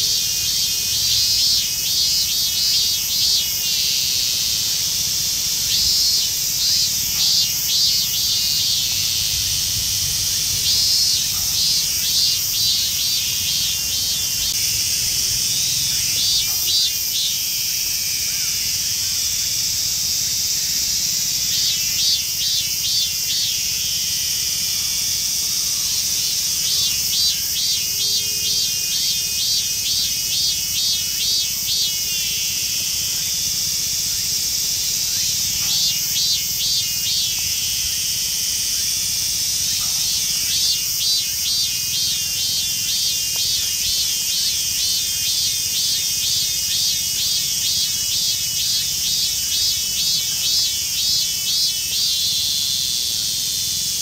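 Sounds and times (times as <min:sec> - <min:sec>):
cicadas pulsing song: 0:00.0 - 0:54.0
high-pitched cicada hiss: 0:00.0 - 0:54.0.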